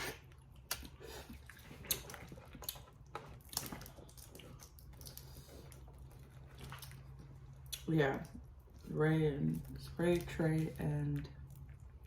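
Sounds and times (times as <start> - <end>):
chewing and wet mouth sounds: 0.0 - 12.0.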